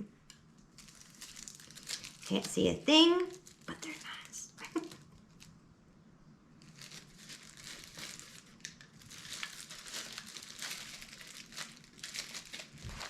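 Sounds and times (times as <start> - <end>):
packaging crinkling: 0.6 - 5.6, 6.6 - 13.0.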